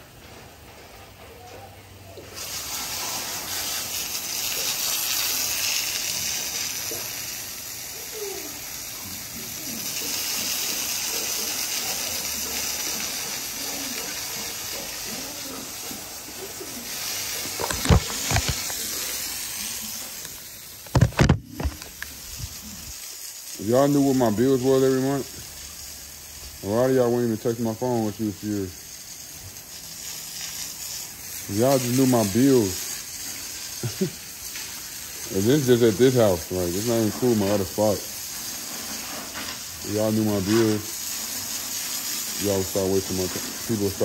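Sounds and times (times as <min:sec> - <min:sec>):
hose water spraying: 0:00.0 - 0:44.0.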